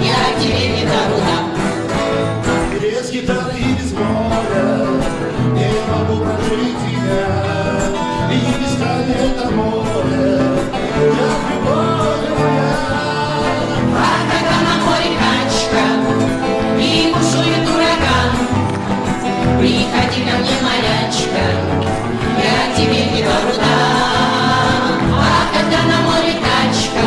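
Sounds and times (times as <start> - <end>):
upbeat song with bouncing bass: 0.0 - 27.0.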